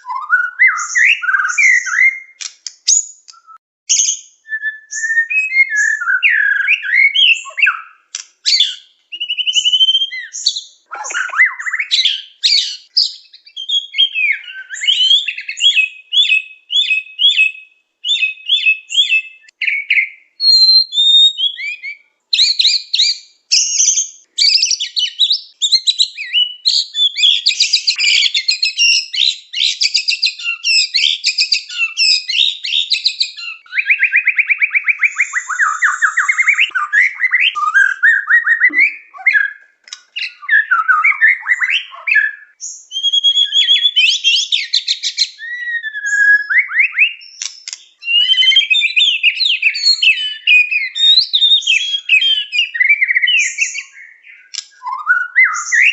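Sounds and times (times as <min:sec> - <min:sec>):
bird singing trills and whistles: 0:00.0 - 0:55.9.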